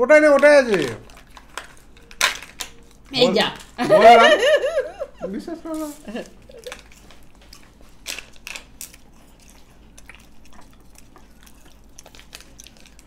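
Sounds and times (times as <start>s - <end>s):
foil wrappers crackling: 0.1s - 3.8s, 5.5s - 13.0s
people eating chocolate: 0.1s - 13.0s.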